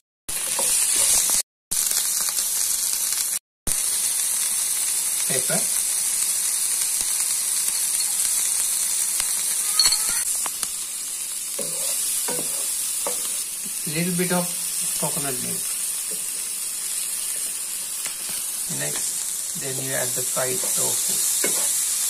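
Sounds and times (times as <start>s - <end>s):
vegetables sizzling in hot oil: 0.3s - 22.0s.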